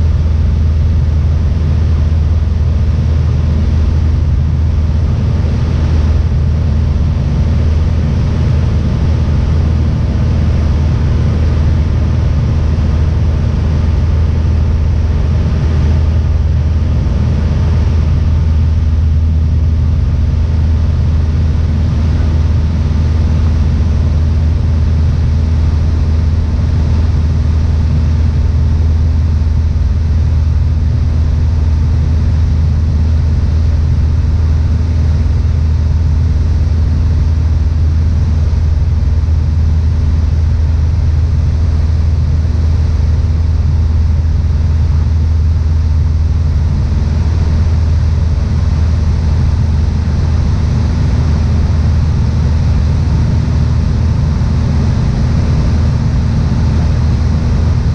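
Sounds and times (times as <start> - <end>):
airplane engine and propeller droning: 0.0 - 57.9
constant rush of cabin noise: 0.0 - 57.9.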